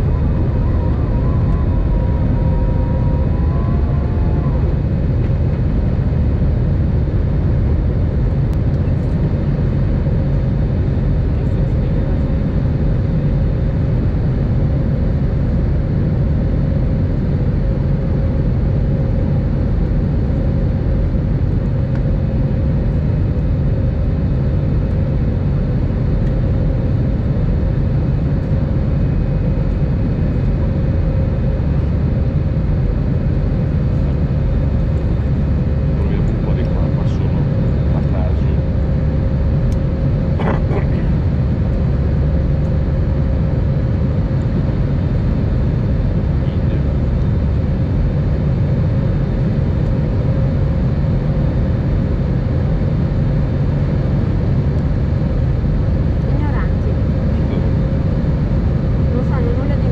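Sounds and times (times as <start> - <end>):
faint steady hum: 0.0 - 59.9
jet engine rumble in cabin: 0.0 - 59.9.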